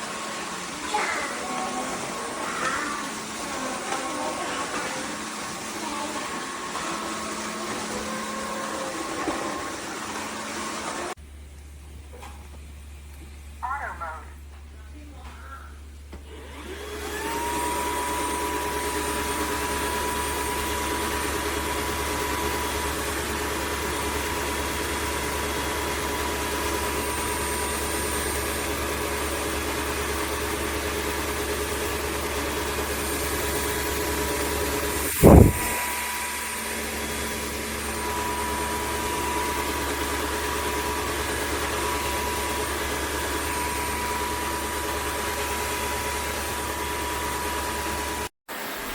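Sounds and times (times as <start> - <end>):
vacuum mop motor whine: 0.0 - 11.2, 16.1 - 48.9.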